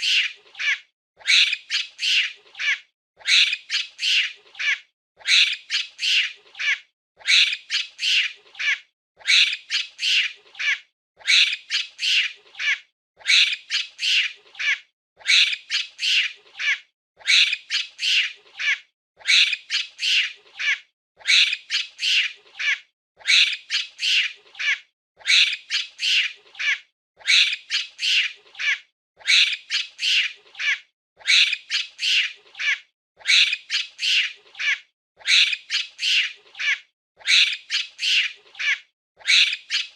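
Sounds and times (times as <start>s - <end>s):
monkey squeaky calls: 0.0s - 39.9s.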